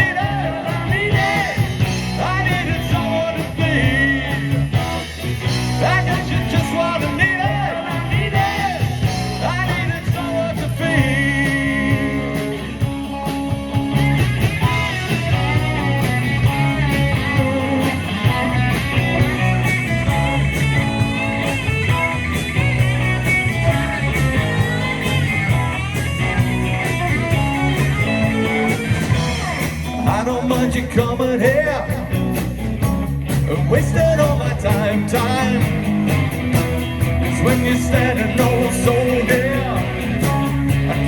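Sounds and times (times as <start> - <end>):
bass guitar: 0.0 - 41.0
lead guitar with bent notes: 0.0 - 41.0
steady drum beat: 0.0 - 41.0.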